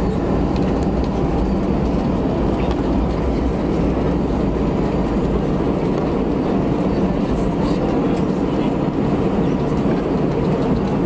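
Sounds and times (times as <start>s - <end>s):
aircraft engines rumbling: 0.0s - 11.0s
wheels on runway: 0.0s - 11.0s.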